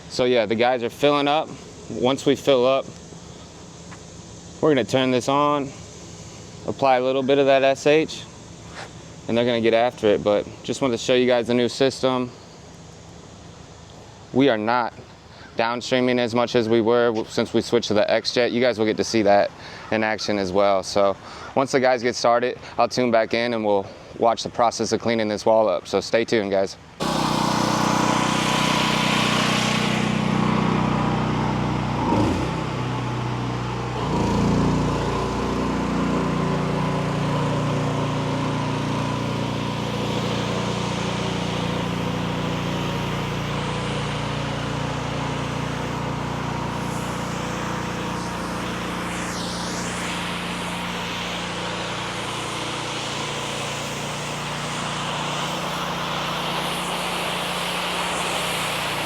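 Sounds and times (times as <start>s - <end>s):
pressure washer engine running: 0.0s - 15.2s, 27.0s - 59.0s.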